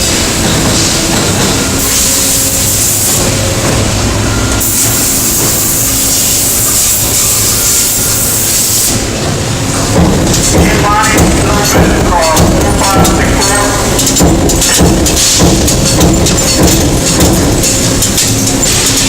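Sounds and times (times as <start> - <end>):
machinery hiss and hum: 0.0 - 19.0.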